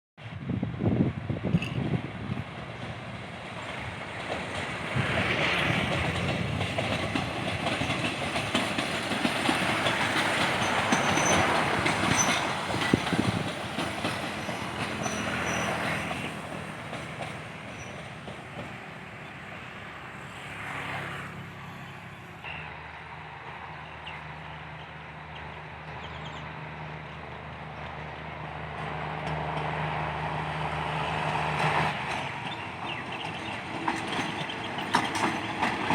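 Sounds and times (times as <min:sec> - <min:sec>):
train rolling on track: 0:00.2 - 0:35.9.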